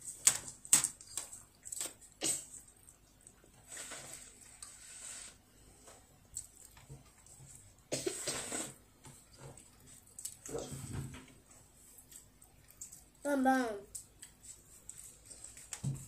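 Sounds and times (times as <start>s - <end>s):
child chewing: 0.0s - 13.2s, 13.9s - 16.0s.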